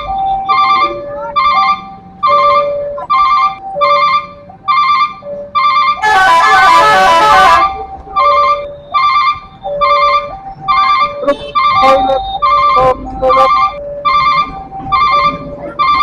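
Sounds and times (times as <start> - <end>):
level crossing warning chime: 0.0 - 6.3, 7.3 - 16.0
truck multi-tone horn: 1.4 - 16.0.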